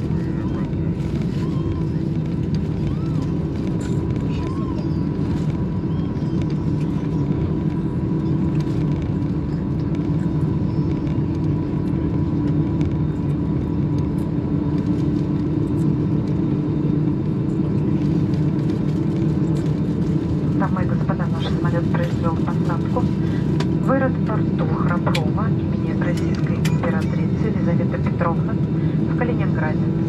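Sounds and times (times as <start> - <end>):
aircraft engines rumbling: 0.0 - 30.0
faint steady whine: 0.0 - 30.0.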